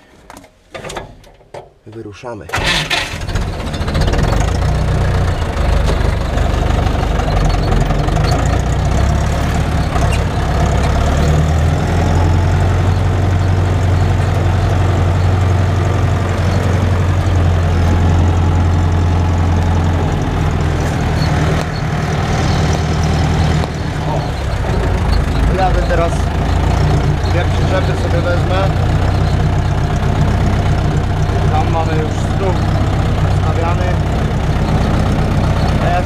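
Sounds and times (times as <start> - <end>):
tractor diesel engine running: 2.5 - 36.0.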